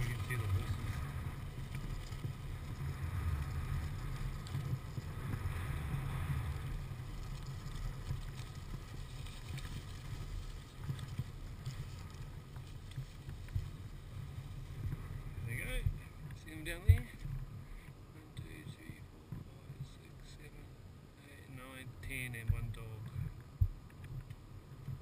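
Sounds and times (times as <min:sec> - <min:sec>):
dirt bike engine rumbling: 0:00.0 - 0:20.8.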